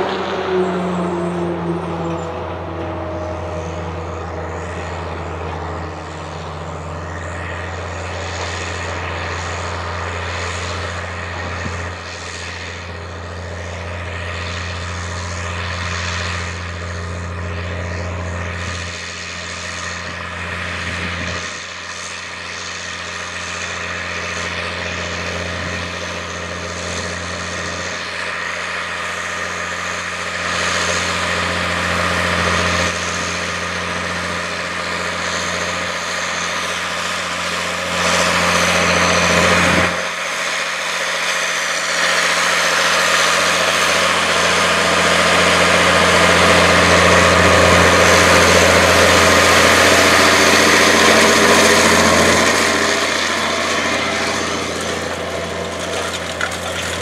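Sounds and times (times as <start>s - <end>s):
tractor diesel engine drone: 0.0s - 57.0s.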